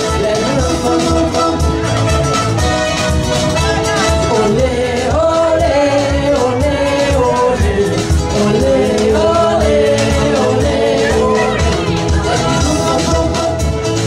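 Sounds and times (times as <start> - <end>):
loud dance music: 0.0 - 14.0
person singing: 0.0 - 14.0.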